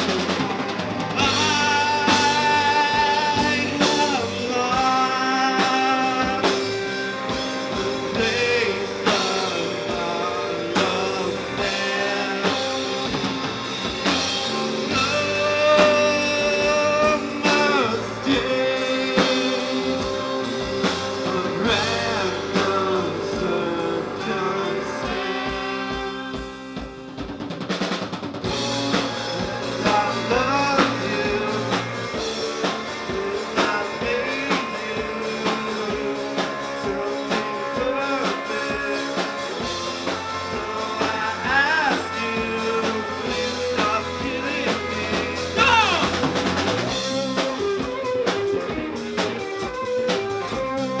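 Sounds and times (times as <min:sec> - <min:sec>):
drum kit: 0:00.0 - 0:51.0
electric guitar bending notes: 0:00.0 - 0:51.0
live rock band playing: 0:00.0 - 0:51.0.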